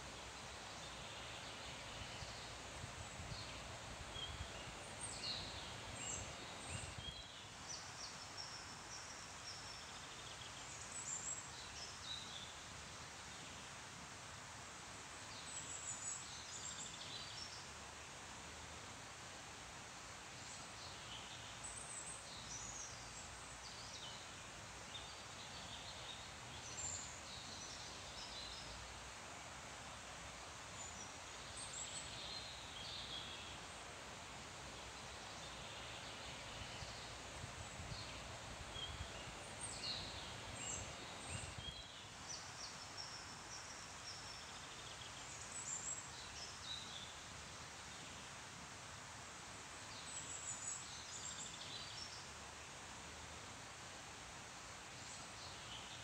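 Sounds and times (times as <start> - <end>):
tree leaves rustling: 0.0 - 56.0.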